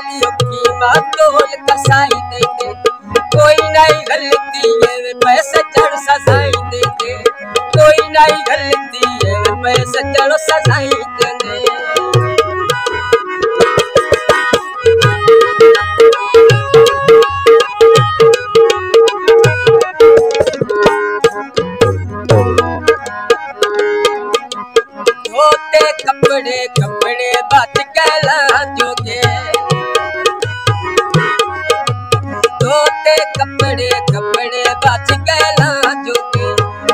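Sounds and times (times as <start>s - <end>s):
man singing: 0.0s - 13.1s, 20.1s - 36.9s
harmonium chords: 0.0s - 36.9s
tabla strokes: 0.0s - 36.9s.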